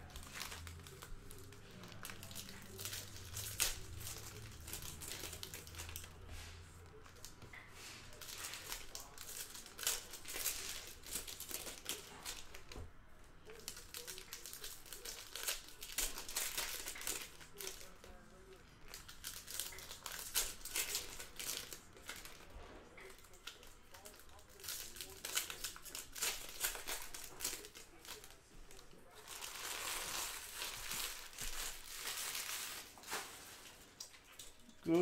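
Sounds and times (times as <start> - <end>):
foil wrappers crinkling and tearing: 0.0 - 12.8, 13.4 - 35.0.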